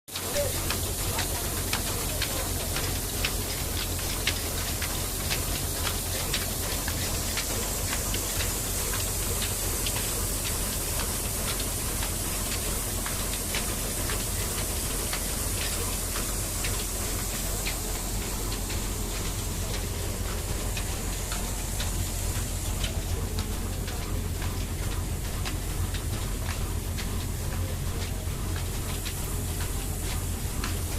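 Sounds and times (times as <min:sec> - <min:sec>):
flour mill engine running: 0:00.1 - 0:30.9.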